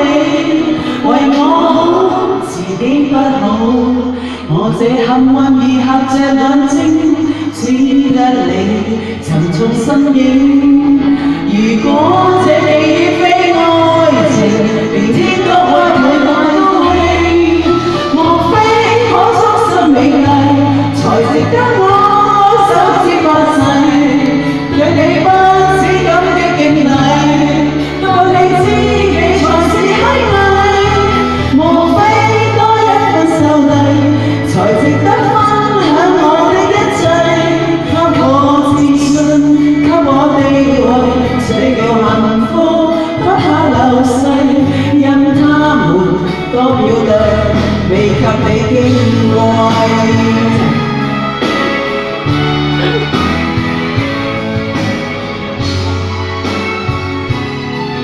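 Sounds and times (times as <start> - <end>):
woman singing into microphone: 0.0 - 54.3
karaoke backing track: 0.0 - 58.0.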